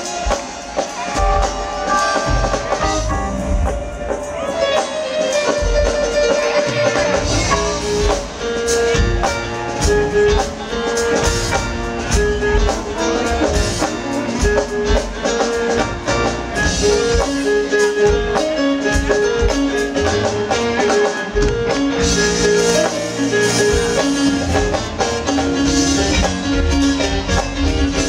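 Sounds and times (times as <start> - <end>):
bass: 0.0 - 4.6, 5.5 - 28.0
drum kit: 0.0 - 28.0
keyboards melody: 0.0 - 28.0.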